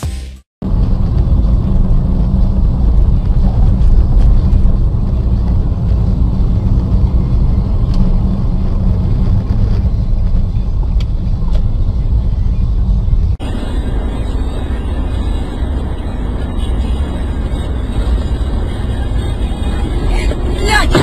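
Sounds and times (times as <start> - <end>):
car driving rumble: 0.6 - 21.0.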